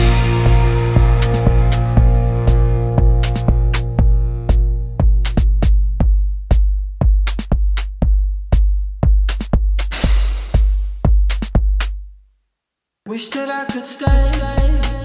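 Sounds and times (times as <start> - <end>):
electronic music with drum-machine beat: 0.0 - 12.0, 13.3 - 15.0.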